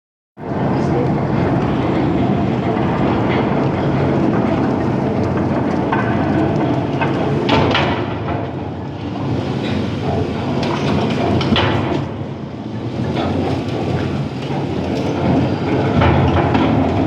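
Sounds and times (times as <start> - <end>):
engine running: 0.4 - 17.0
metallic clanks and knocks: 2.6 - 12.2, 12.9 - 17.0.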